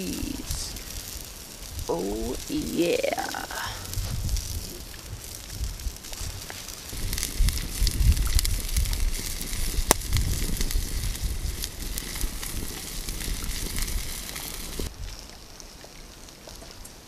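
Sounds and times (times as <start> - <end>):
burger patties sizzling on grill: 0.0 - 16.7
campfire crackling and popping: 0.0 - 17.0.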